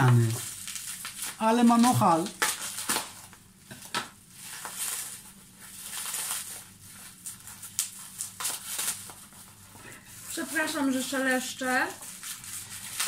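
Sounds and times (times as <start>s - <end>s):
packing material rustling: 0.0s - 13.0s.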